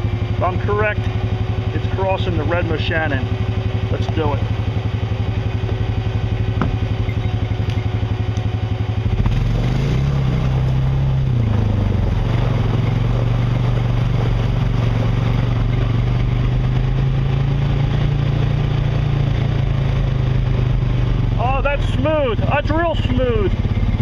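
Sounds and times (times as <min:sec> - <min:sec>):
quad bike engine revving: 0:00.0 - 0:24.0.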